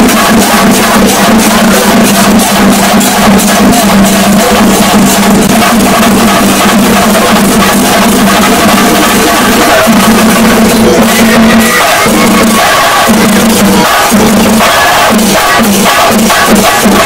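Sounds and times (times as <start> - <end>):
drums beaten with sticks: 0.0 - 17.0
hand cymbals: 0.0 - 17.0.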